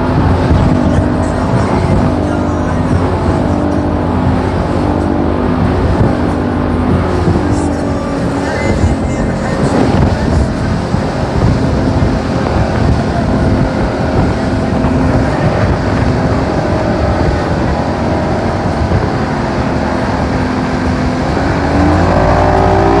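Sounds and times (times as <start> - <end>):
boat engine running: 0.0 - 23.0
water wash: 0.0 - 23.0
wind noise: 0.0 - 23.0.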